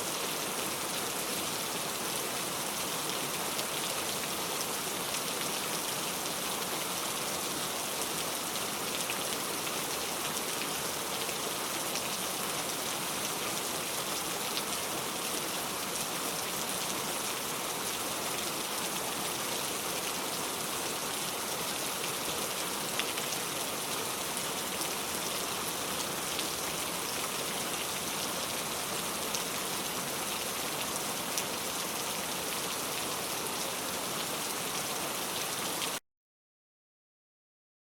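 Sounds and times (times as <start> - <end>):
heavy rain falling: 0.2 - 36.0.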